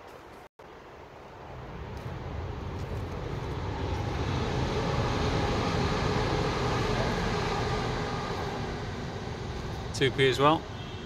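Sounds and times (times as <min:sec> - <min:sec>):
passing vehicle drone: 0:01.3 - 0:11.0.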